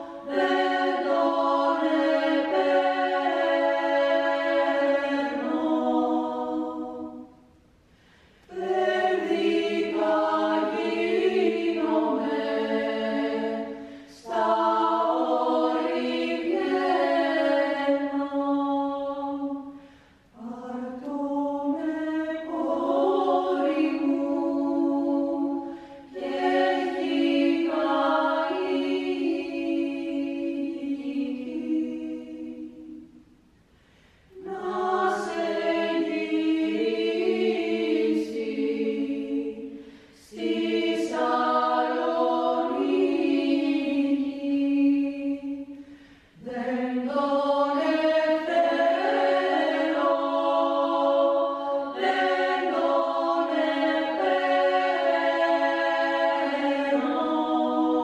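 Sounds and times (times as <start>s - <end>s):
women's choir singing a cappella: 0.0s - 7.6s, 8.4s - 33.4s, 34.3s - 58.0s.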